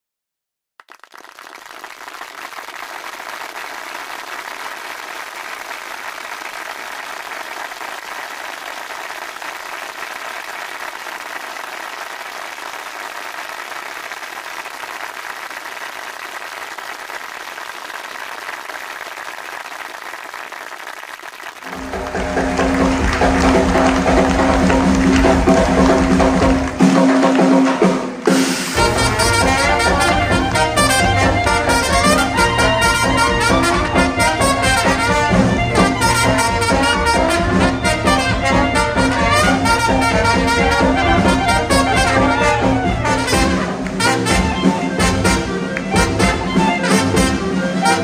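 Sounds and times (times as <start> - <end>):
audience applauding: 0.8 - 48.0.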